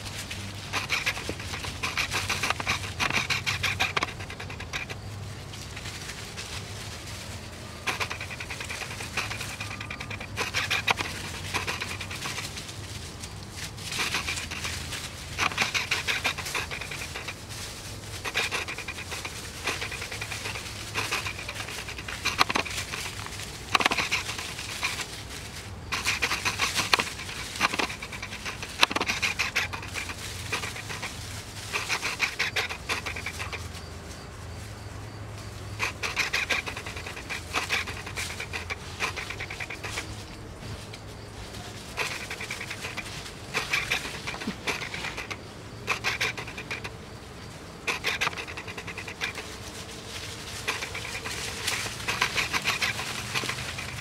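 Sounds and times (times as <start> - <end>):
dry leaves rustling and crunching: 0.0 - 54.0.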